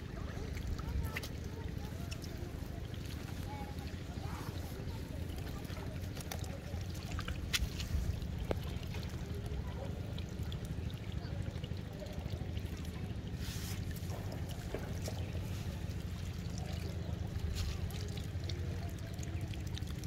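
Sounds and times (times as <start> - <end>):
small clicks and splashes: 0.0 - 20.0
water trickling over grass: 0.0 - 20.0.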